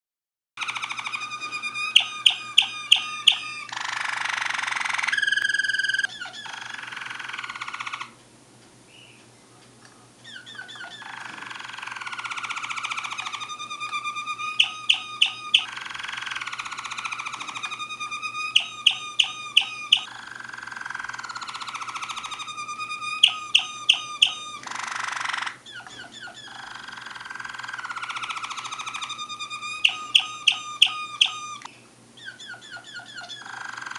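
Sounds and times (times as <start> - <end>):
canary singing: 0.6 - 8.2, 8.9 - 9.4, 10.2 - 33.9.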